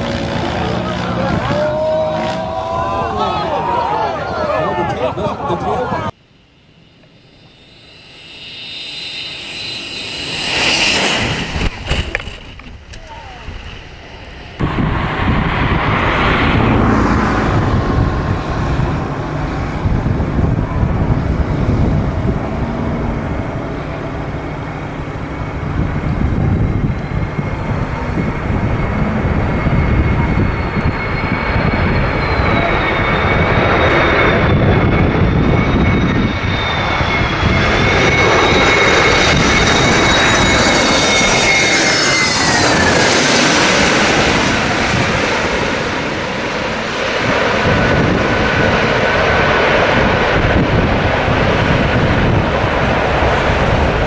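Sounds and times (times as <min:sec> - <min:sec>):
jet airliner roaring and whining: 0:00.0 - 0:54.0.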